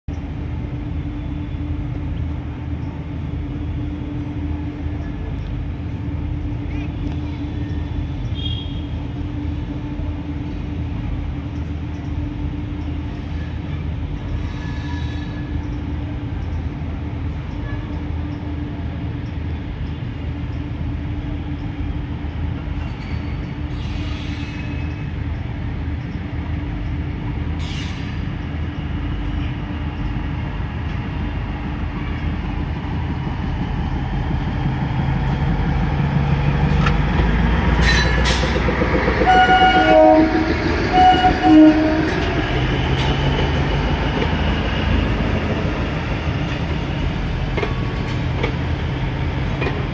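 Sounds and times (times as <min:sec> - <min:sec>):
approaching train rumble: 0:00.1 - 0:49.9
standing train humming: 0:00.1 - 0:49.9.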